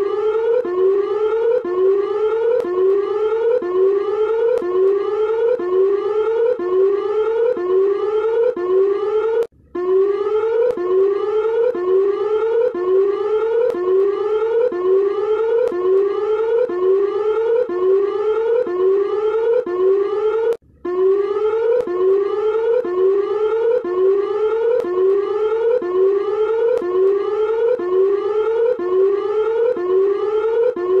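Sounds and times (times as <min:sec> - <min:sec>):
whooping siren alarm tone: 0:00.0 - 0:31.0.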